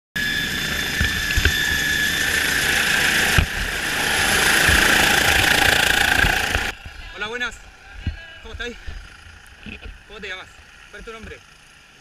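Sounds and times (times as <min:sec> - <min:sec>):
helicopter turbine whine: 0:00.2 - 0:12.0
loud rushing rotor noise: 0:00.2 - 0:12.0.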